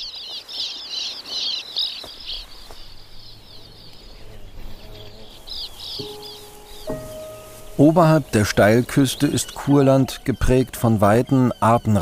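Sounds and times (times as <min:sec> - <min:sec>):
birds twittering chirps: 0:00.0 - 0:12.0.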